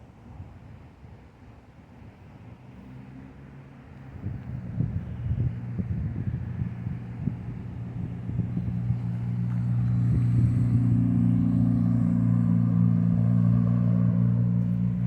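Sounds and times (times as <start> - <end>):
engine running: 2.7 - 15.0.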